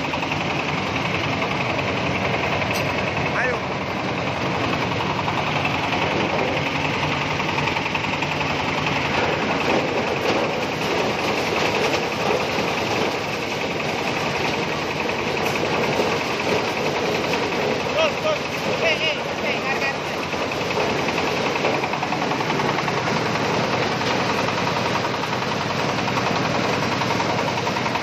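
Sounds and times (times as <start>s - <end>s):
corn sheller machine running: 0.0s - 28.0s.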